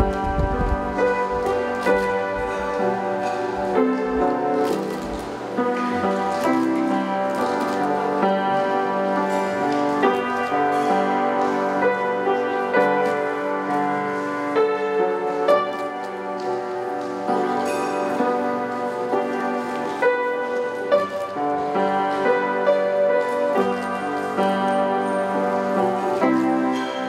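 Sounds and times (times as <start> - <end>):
grand piano solo: 0.0 - 27.0.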